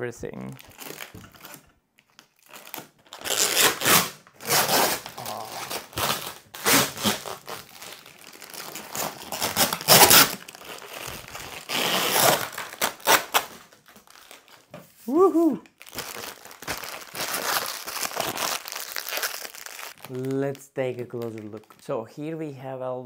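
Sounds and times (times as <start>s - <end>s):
plastic wrapping crinkling: 0.4s - 22.2s.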